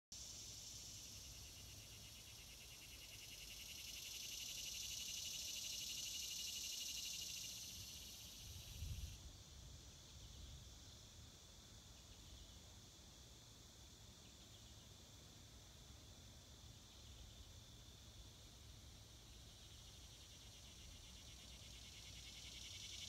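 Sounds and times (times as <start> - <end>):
insects buzzing: 0.2 - 23.0.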